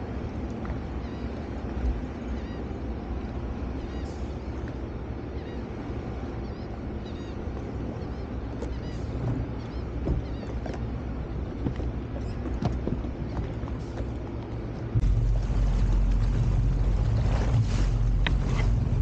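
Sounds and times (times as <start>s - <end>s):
water noise: 0.0s - 19.0s
wind: 0.0s - 19.0s.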